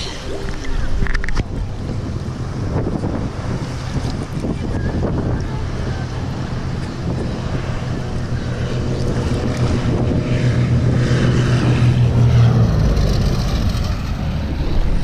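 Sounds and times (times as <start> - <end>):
propeller plane flying overhead: 0.0 - 15.0.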